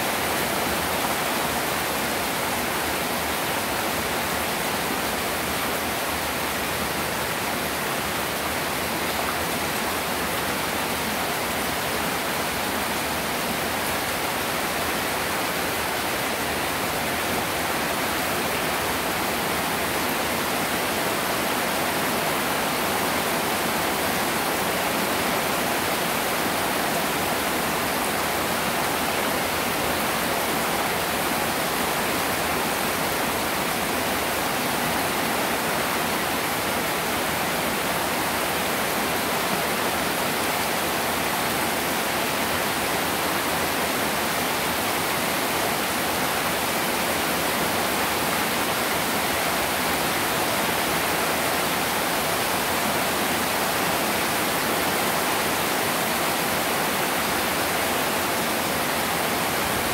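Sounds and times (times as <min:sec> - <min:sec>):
heavy rain on water: 0:00.0 - 0:59.9.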